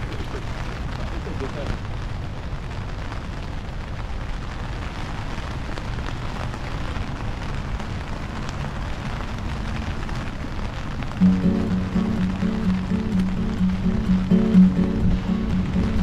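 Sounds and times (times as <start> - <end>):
rain on wet pavement: 0.0 - 16.0.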